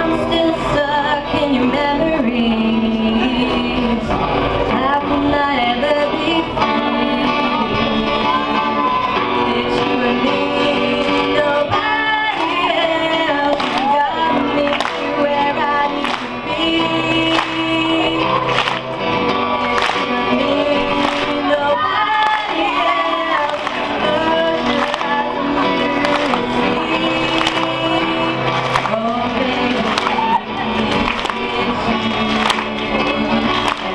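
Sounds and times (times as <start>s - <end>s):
instrumental backing music: 0.0s - 33.9s
person singing: 0.0s - 33.9s.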